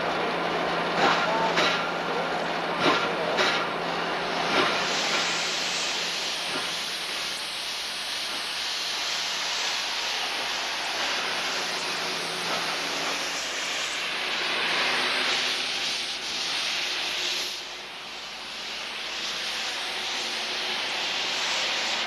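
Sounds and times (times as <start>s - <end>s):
steam hissing: 0.9s - 22.0s.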